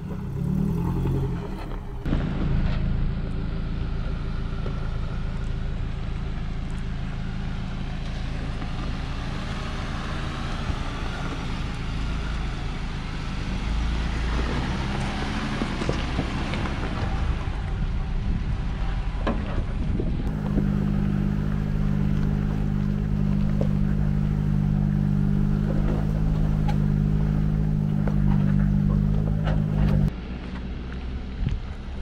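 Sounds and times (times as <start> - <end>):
low engine hum: 0.0 - 32.0
vehicle engine running slowly: 0.0 - 32.0.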